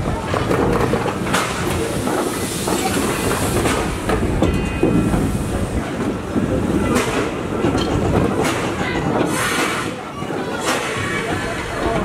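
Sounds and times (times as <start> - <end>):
train rumbling on track: 0.0 - 12.0
wheels clacking over rail joints: 0.0 - 12.0.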